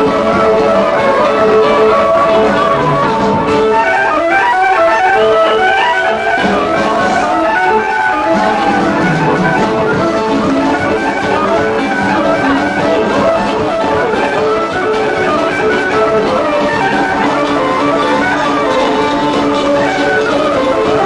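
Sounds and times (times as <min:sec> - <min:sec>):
fast dance music: 0:00.0 - 0:21.0
plucked string melodic runs: 0:00.0 - 0:21.0.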